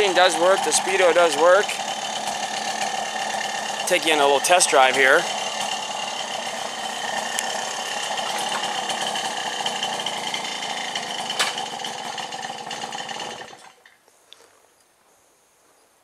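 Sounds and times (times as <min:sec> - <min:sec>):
moped two-stroke engine running: 0:00.0 - 0:13.9.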